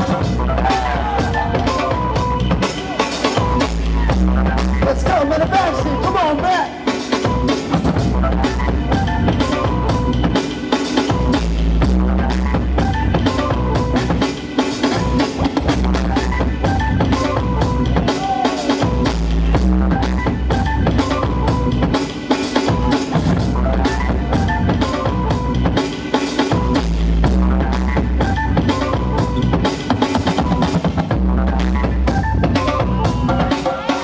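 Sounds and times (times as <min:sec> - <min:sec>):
drum-heavy music with bass: 0:00.0 - 0:34.0.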